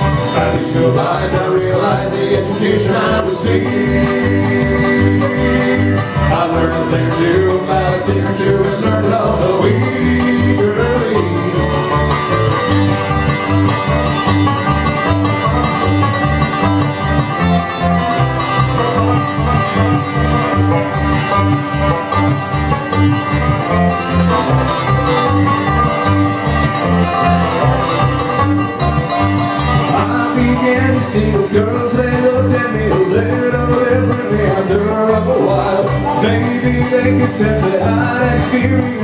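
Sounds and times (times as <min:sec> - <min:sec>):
banjo picking: 0:00.0 - 0:39.0
bass beat: 0:00.0 - 0:39.0
guitar picking: 0:00.0 - 0:39.0.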